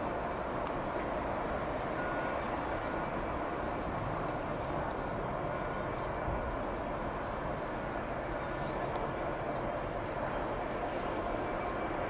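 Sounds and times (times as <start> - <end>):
rumbling rail yard noise: 0.0 - 12.0.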